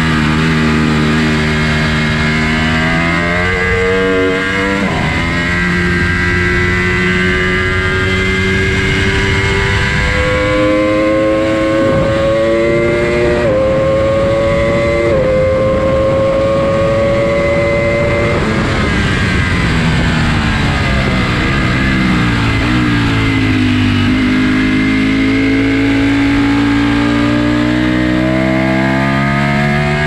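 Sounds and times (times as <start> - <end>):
motorcycle engine revving: 0.0 - 30.0
wind rush: 0.9 - 30.0.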